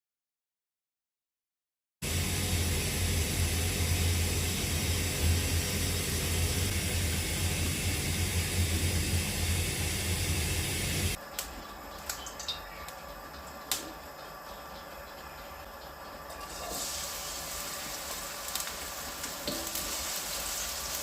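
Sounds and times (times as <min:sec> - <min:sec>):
fan hiss and low hum: 0:02.0 - 0:21.0.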